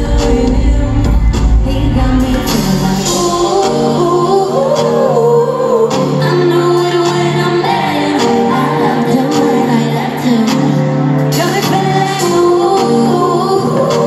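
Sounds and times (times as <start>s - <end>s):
live pop band: 0.0s - 14.0s
woman singing: 0.0s - 14.0s.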